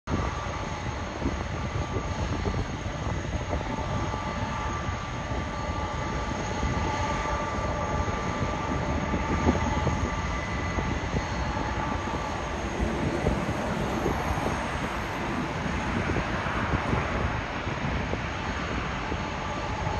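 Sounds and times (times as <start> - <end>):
jet engines whining: 0.1 - 19.9.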